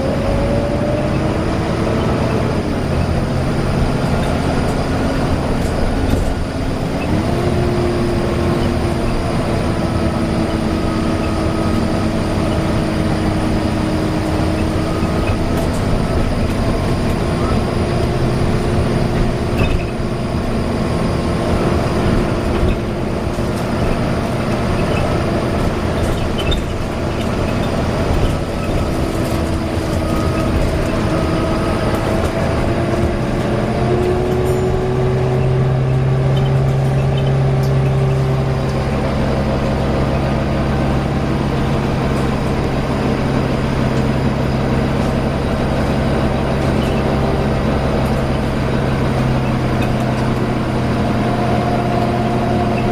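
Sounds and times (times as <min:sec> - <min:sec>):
bus engine running: 0:00.0 - 0:52.9
loud whine: 0:00.0 - 0:52.9.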